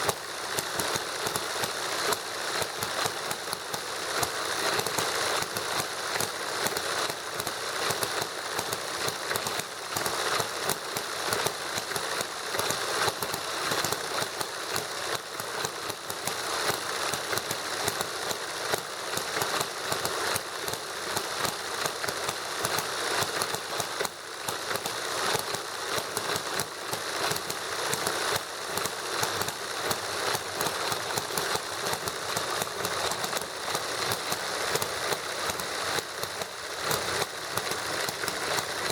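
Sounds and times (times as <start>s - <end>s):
model engines clattering: 0.0s - 38.9s.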